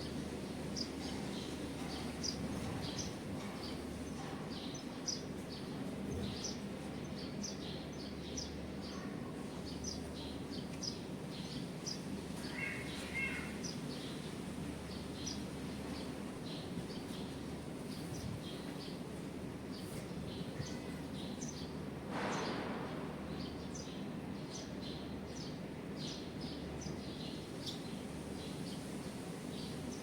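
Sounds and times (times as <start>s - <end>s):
low background noise: 0.0s - 30.0s
small birds chirping: 0.0s - 30.0s.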